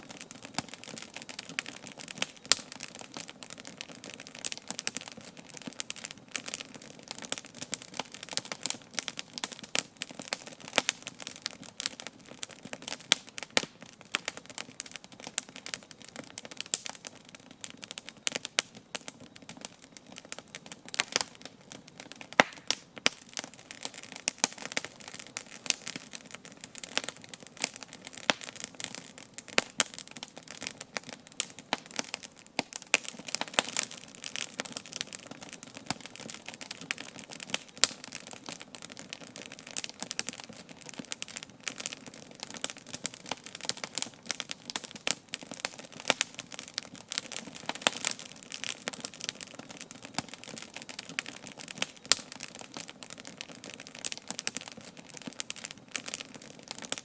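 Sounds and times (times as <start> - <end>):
campfire pops and snaps: 0.0 - 57.0
hiss of burning wood: 0.0 - 57.0.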